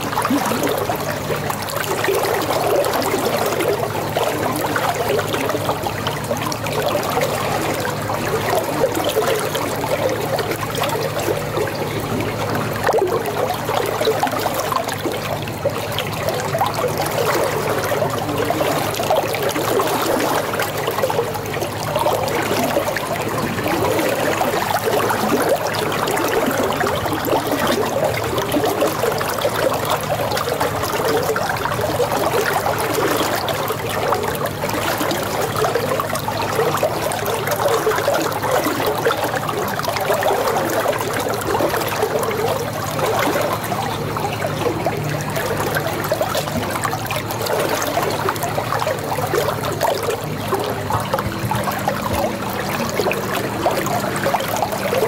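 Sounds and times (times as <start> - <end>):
low steady hum: 0.0 - 55.0
water trickling: 0.0 - 55.0.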